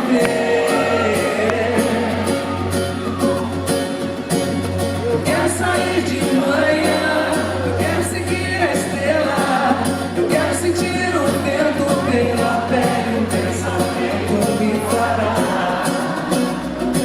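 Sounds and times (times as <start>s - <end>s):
live band music: 0.0s - 17.0s.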